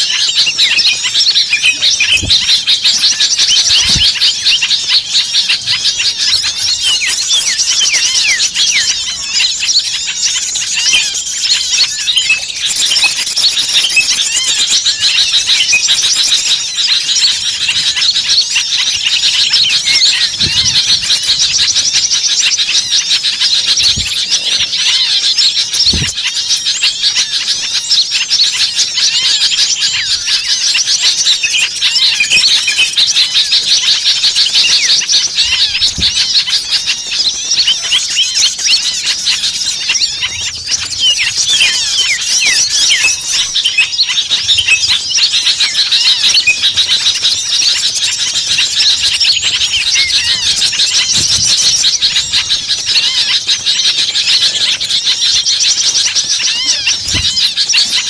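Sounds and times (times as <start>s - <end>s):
songbirds chirping and twittering: 0.0s - 58.0s.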